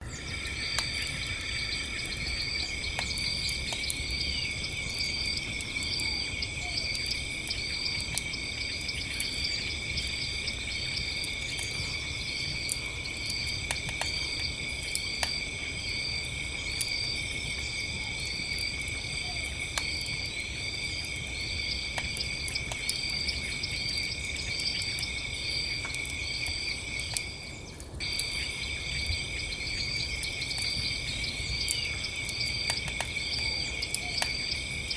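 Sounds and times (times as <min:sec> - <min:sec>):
insect chirping: 0:00.0 - 0:34.9
insect trill: 0:00.0 - 0:34.9
campfire crackling and popping: 0:00.3 - 0:34.9.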